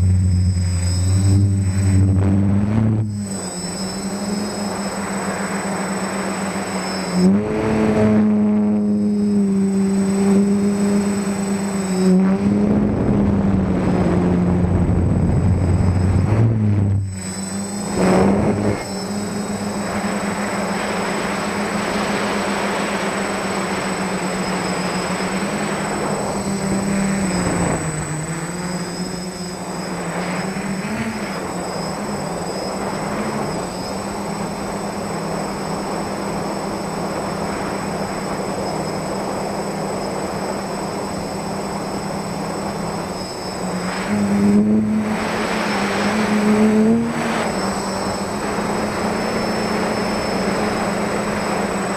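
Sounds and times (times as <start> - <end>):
quadcopter motors buzzing: 0.0 - 51.9
thin high whine: 0.0 - 51.9.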